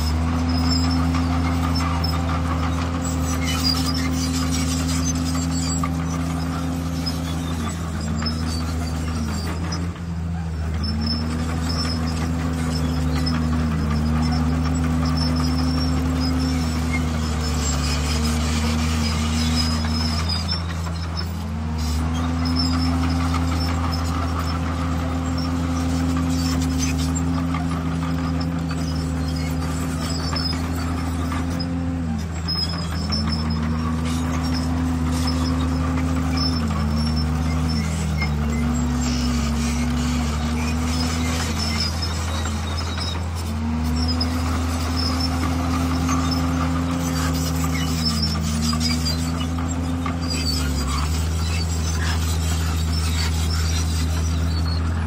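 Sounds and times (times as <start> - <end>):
bulldozer diesel engine running: 0.0 - 55.0
faint high squeaks: 0.0 - 55.0.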